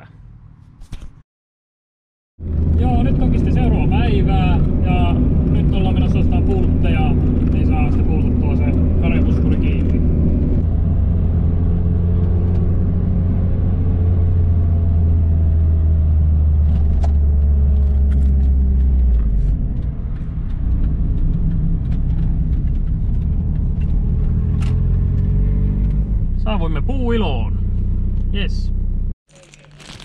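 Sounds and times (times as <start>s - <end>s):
car engine: 2.4s - 29.2s
road noise drone: 2.4s - 29.2s.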